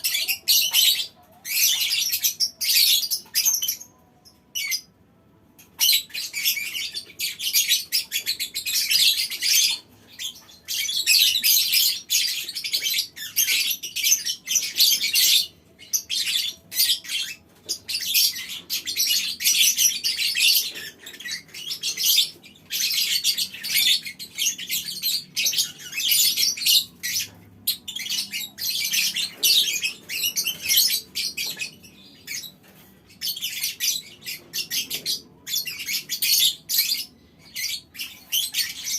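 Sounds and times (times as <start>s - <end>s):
lovebirds chattering: 0.0s - 4.9s, 5.6s - 38.9s.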